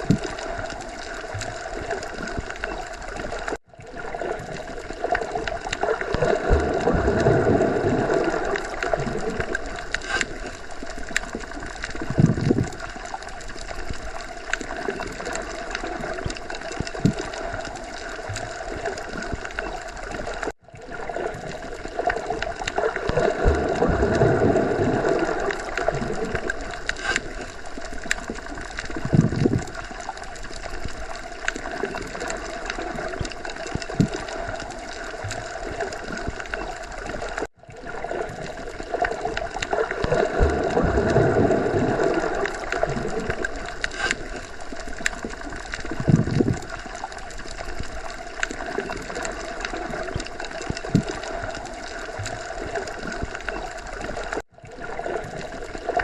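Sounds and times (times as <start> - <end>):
muffled underwater water noise: 0.0 - 56.0.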